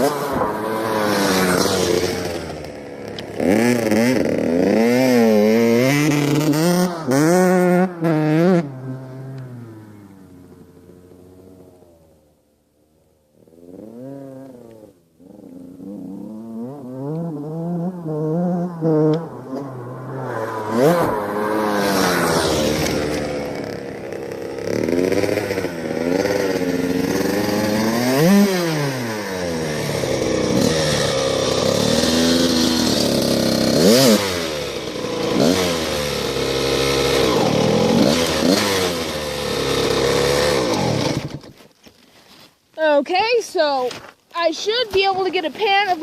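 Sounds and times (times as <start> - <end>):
dirt bike engine revving: 0.0 - 12.1, 13.2 - 41.6.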